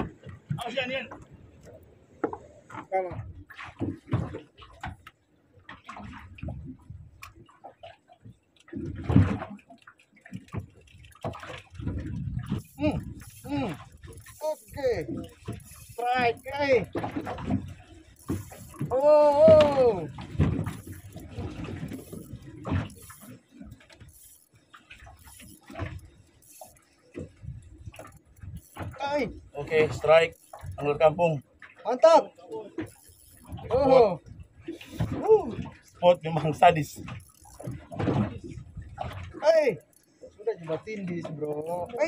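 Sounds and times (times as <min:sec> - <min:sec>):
water slapping against boat hull: 0:00.0 - 0:42.0.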